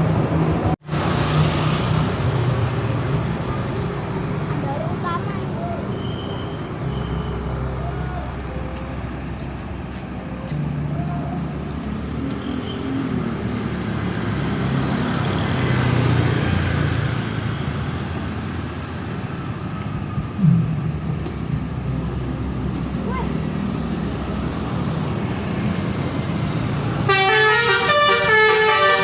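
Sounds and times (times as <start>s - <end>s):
large vehicle passing: 0.0s - 27.1s
road traffic engines: 0.0s - 29.0s.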